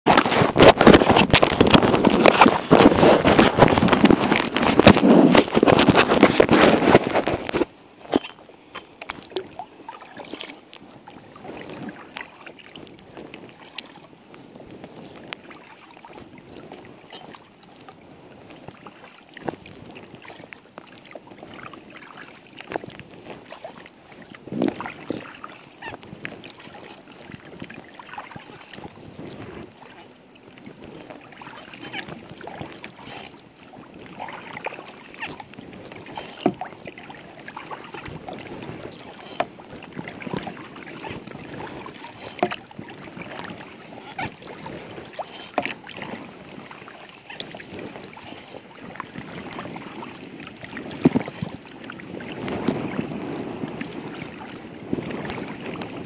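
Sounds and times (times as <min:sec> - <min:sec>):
paddle splashing: 0:00.0 - 0:56.0
wash of moving water: 0:00.0 - 0:56.0.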